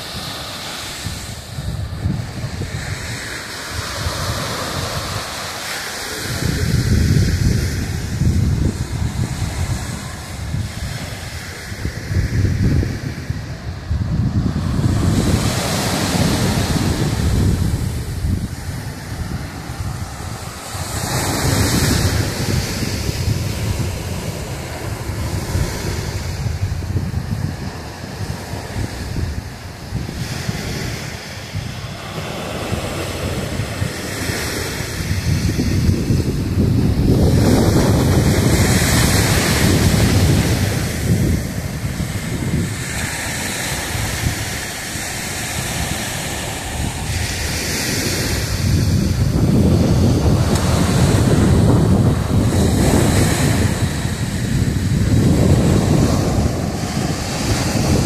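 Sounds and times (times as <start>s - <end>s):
surf washing onto beach: 0.0s - 58.0s
wind buffeting microphone: 0.0s - 58.0s.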